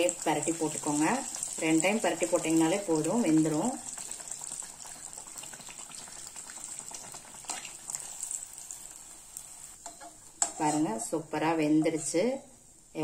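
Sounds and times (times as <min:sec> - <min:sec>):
oil bubbling and sizzling: 0:00.0 - 0:13.0.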